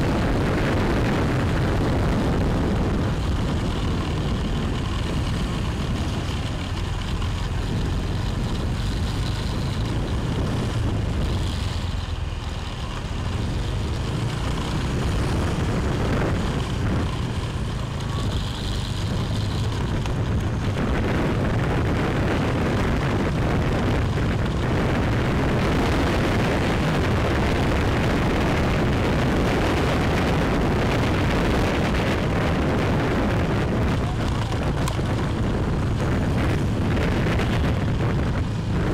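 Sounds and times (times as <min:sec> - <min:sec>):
motorbike engine: 0:00.0 - 0:38.9
traffic noise: 0:00.0 - 0:38.9
wind rumbling over microphone: 0:00.0 - 0:38.9.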